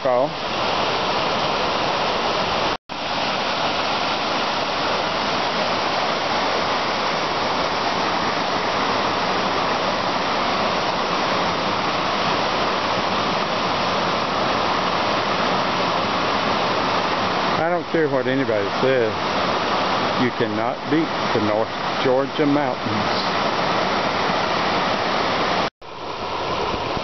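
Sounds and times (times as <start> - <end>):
waterfall water rushing: 0.0 - 27.0.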